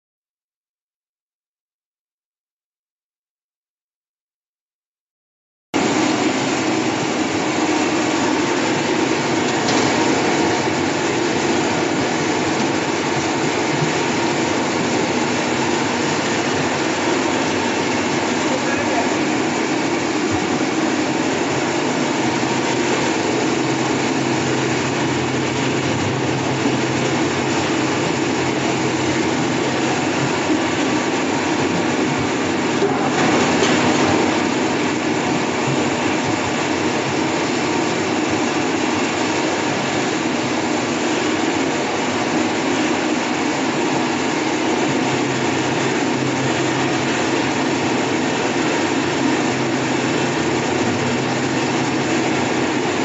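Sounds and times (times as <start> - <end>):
machine running with low hum: 5.8 - 53.0.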